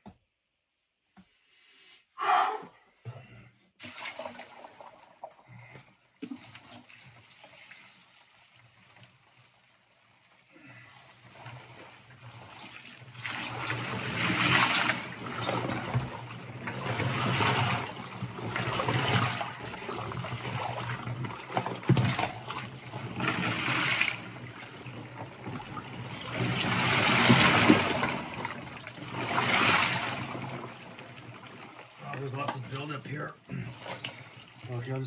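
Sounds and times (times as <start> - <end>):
water sloshing in a tub: 3.8 - 35.0.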